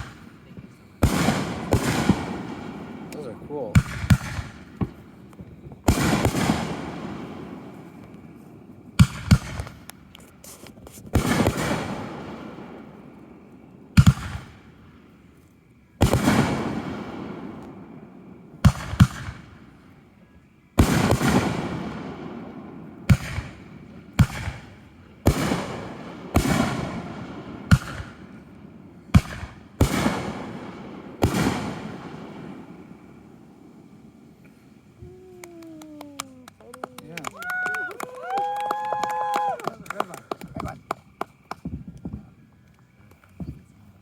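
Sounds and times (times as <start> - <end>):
fireworks exploding: 0.0 - 44.0.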